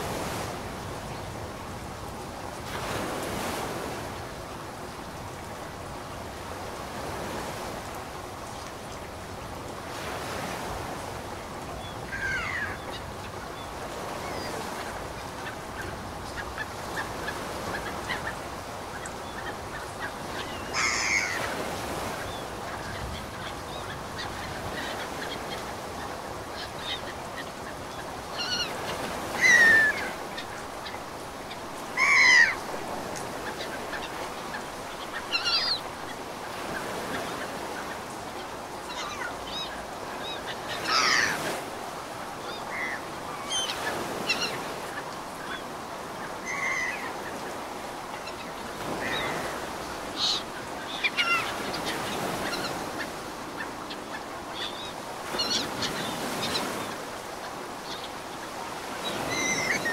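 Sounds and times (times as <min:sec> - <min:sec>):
ocean waves: 0:00.0 - 0:59.9.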